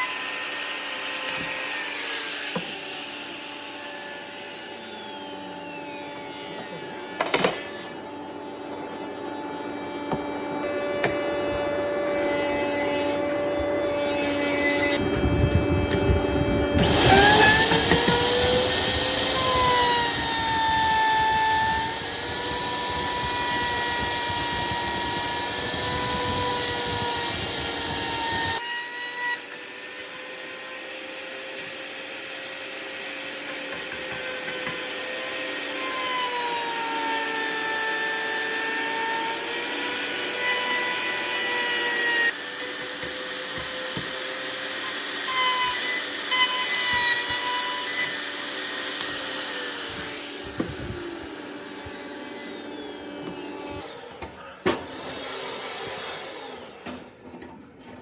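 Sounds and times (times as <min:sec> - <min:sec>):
power tool motor whine: 0:00.0 - 0:56.9.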